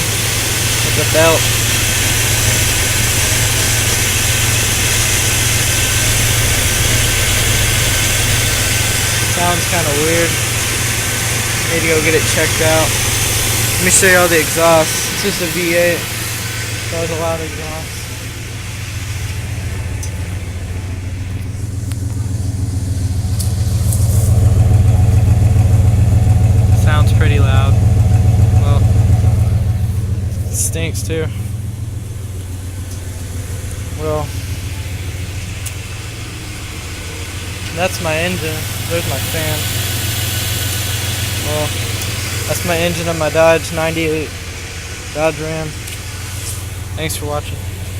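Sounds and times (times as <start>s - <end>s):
squeaky drive belt: 0.0s - 47.9s
truck engine idling: 0.0s - 47.9s.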